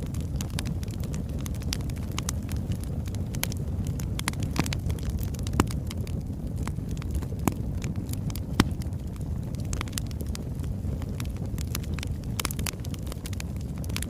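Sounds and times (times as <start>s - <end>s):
fire crackles and pops: 0.0s - 14.0s
low rumble of flame: 0.0s - 14.0s.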